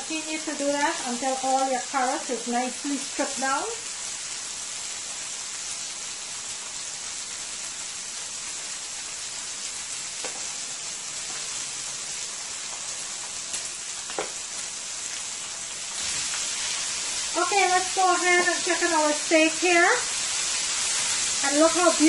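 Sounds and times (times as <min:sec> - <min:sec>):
steaks sizzling in a skillet: 0:00.0 - 0:22.0.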